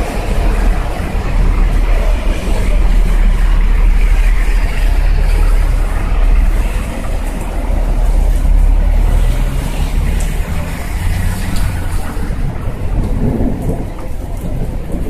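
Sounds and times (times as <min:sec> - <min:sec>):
low engine rumble: 0:00.0 - 0:15.0
tyres splashing through water: 0:00.0 - 0:15.0.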